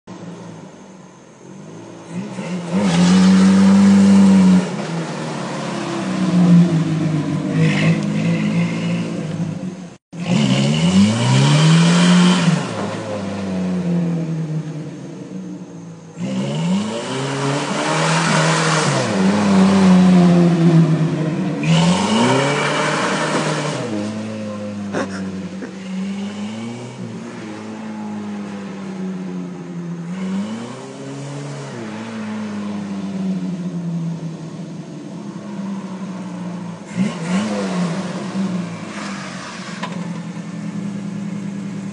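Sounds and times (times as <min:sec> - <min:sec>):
pickup engine revving: 0:01.6 - 0:41.9.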